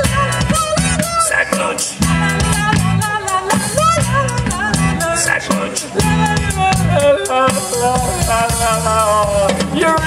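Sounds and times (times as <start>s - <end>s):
live band playing: 0.0s - 10.0s
man singing: 0.0s - 10.0s
steady drum beat: 0.0s - 10.0s.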